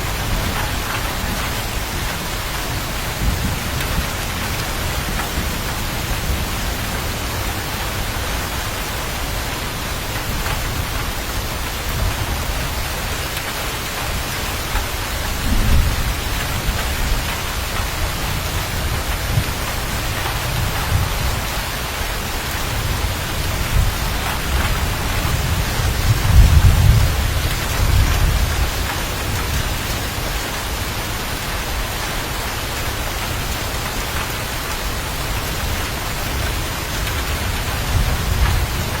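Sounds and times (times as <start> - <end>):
heavy rain: 0.0 - 39.0
thunder rumbling: 0.0 - 39.0.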